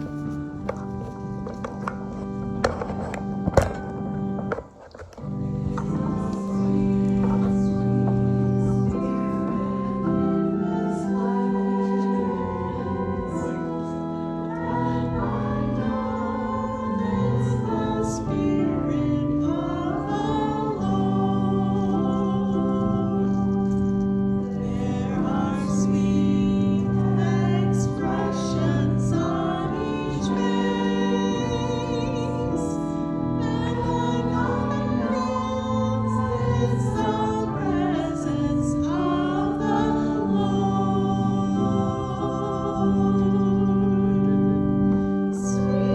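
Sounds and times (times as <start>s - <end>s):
choir singing gospel: 0.0s - 45.9s
organ chords: 0.0s - 45.9s.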